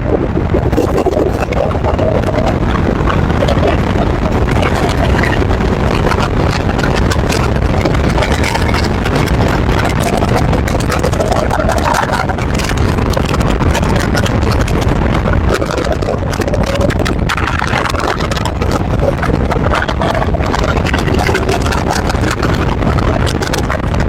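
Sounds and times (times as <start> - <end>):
constant crackle: 0.0 - 24.0
road tyre and wind noise: 0.0 - 24.0.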